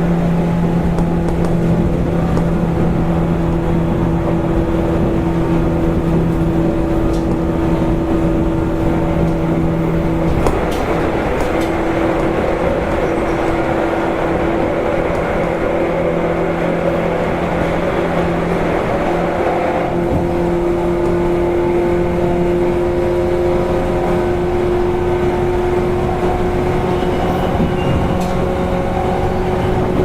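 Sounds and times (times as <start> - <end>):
train motor whine: 0.0 - 30.0
train wheels rumbling on rails: 0.0 - 30.0.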